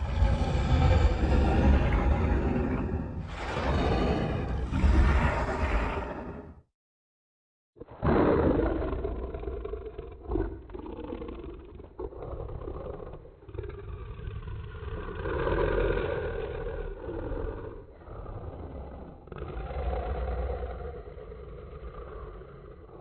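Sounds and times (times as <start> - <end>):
monster growls: 0.0 - 6.6, 7.8 - 23.0.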